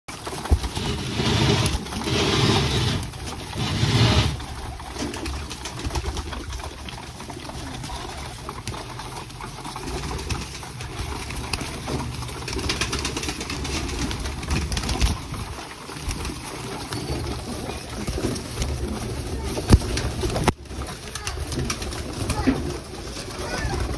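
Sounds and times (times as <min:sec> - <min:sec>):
pigeon wings flapping: 0:00.1 - 0:23.9
pigeons scuffling: 0:00.1 - 0:23.9
pigeons cooing: 0:00.2 - 0:23.9.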